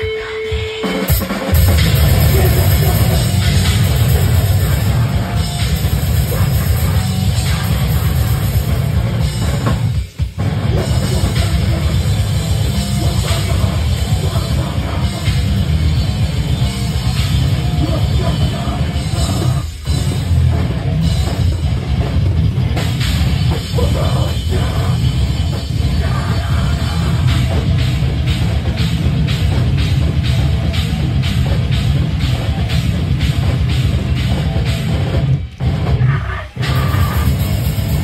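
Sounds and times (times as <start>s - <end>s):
live heavy metal band: 0.0s - 38.0s.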